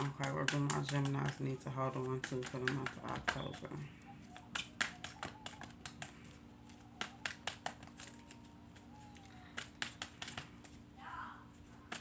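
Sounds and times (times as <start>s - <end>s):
cards snapping and tapping: 0.0s - 10.9s
low room hum: 0.0s - 12.0s.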